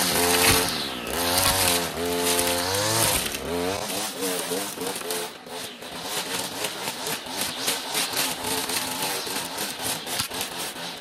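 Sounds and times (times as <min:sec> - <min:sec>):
petrol strimmer engine: 0:00.0 - 0:11.0.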